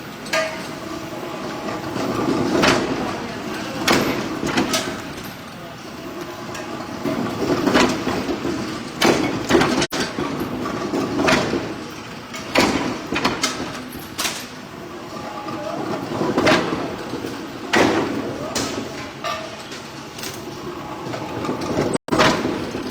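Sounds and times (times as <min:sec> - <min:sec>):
workshop noise: 0:00.0 - 0:22.9.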